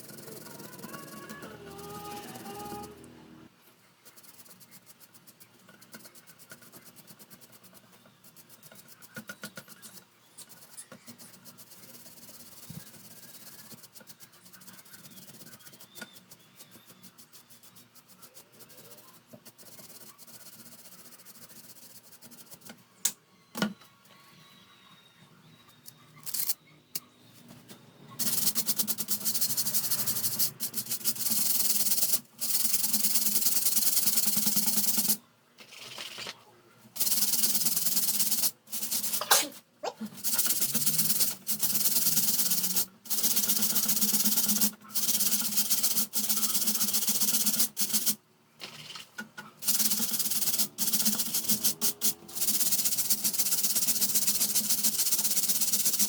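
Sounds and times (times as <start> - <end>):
hissy scrubbing on fan parts: 0.0 - 22.7, 28.2 - 35.2, 37.0 - 48.2, 49.6 - 56.0.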